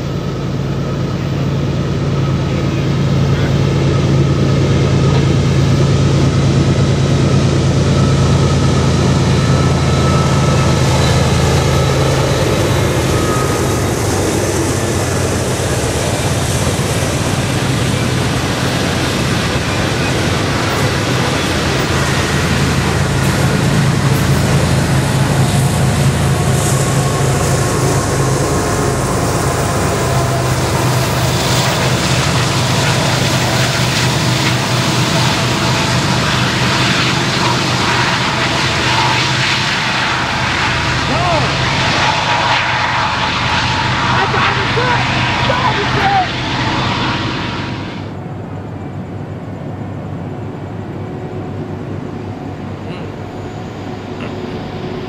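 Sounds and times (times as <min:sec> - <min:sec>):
diesel locomotive engine drone: 0:00.0 - 0:55.0
train rolling by: 0:00.0 - 0:55.0.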